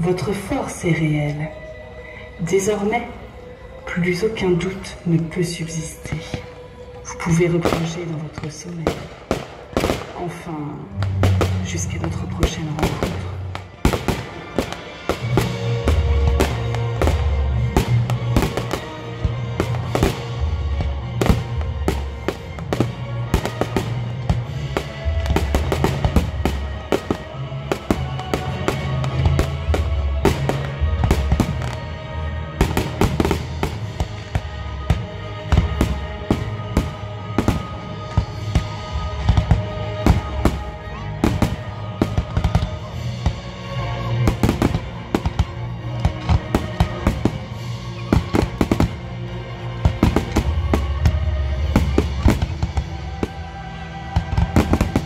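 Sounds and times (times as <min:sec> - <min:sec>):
fireworks bangs and crackles: 0:06.0 - 0:55.0.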